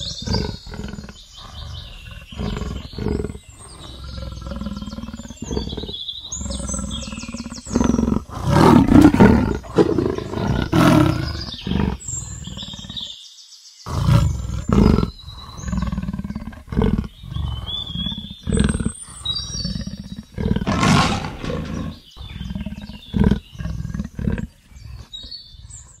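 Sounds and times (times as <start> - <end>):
leopard roaring and growling: 0.0 - 13.1, 13.9 - 26.0
faint birds chirping: 0.0 - 26.0.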